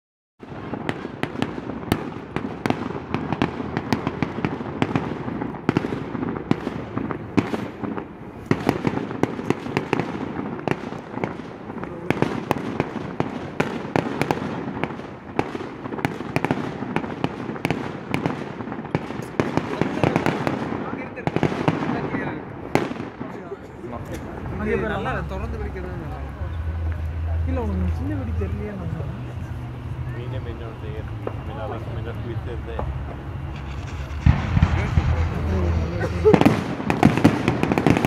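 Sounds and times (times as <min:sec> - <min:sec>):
continuous rumble: 0:00.4 - 0:38.0
fireworks bangs and crackles: 0:00.4 - 0:38.0.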